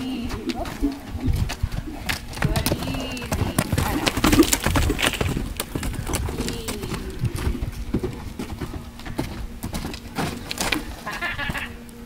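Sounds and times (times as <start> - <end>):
horse hoofbeats on dirt: 0.0 - 11.8.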